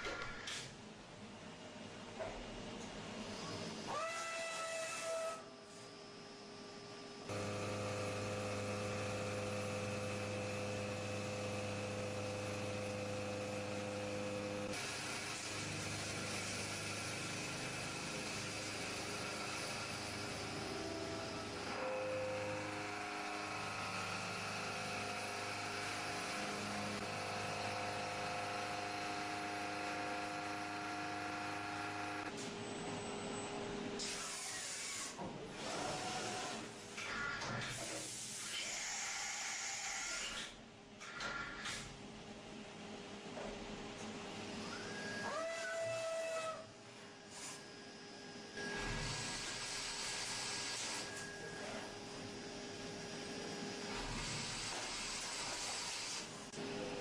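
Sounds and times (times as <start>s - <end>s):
machine hum with hiss: 3.1s - 37.1s, 44.0s - 57.0s.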